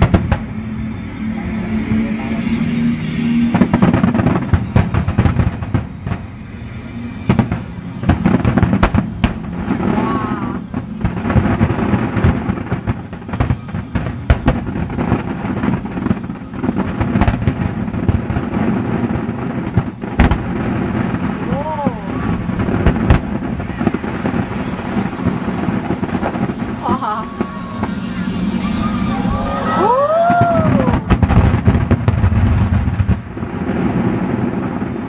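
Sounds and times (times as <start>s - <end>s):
music playing: 0.0s - 32.0s
fireworks bursting and crackling: 0.0s - 35.0s.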